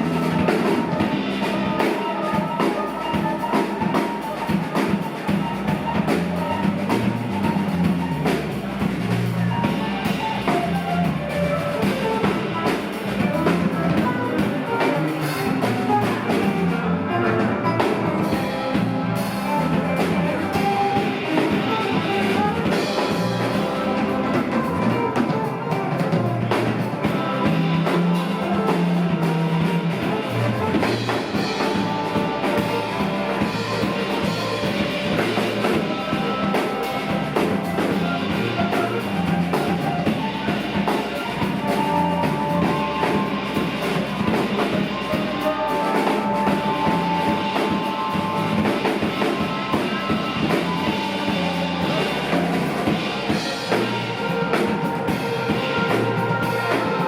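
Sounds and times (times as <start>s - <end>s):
bass guitar: 0.0s - 57.0s
drum kit: 0.0s - 57.0s
guitar: 0.0s - 57.0s.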